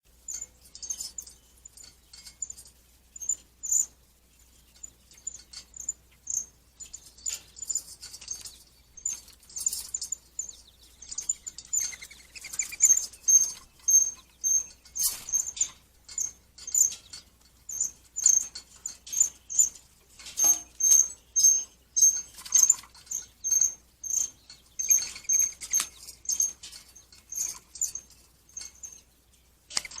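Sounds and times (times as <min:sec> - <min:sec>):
woodpecker ticking: 0:04.6 - 0:30.0.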